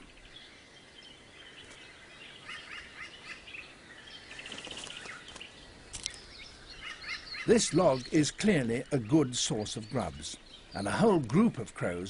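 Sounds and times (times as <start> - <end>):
birds chirping: 0.0 - 12.0
faint forest ambience: 0.0 - 12.0.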